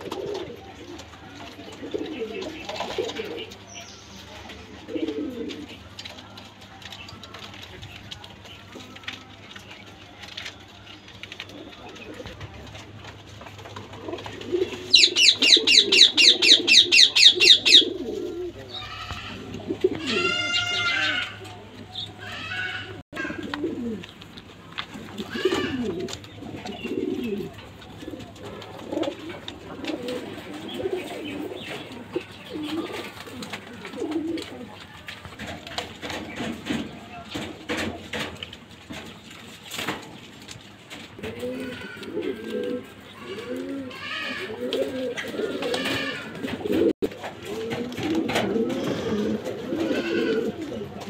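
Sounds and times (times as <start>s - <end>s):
pigeons cooing: 0.0s - 51.0s.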